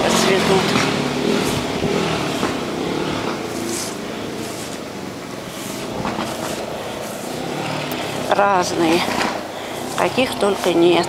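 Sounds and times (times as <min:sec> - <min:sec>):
strong wind rushing through plants: 0:00.0 - 0:11.0.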